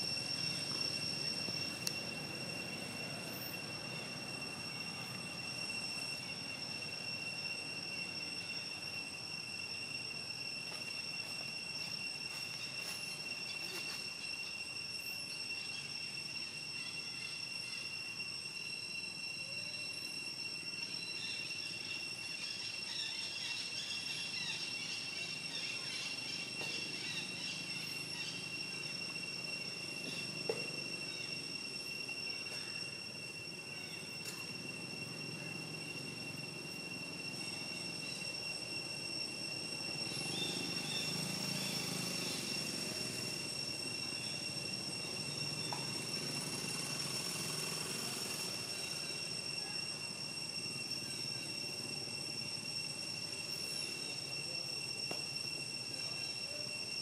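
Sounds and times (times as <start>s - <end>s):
faint chirps: 0.0s - 57.0s
high-pitched insect drone: 0.0s - 57.0s
outdoor ambience: 0.0s - 57.0s.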